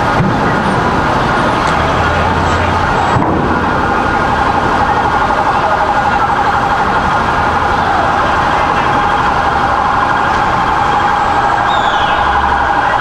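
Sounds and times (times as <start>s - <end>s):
emergency vehicle sirens: 0.0s - 13.0s
loud steady noise: 0.0s - 13.0s.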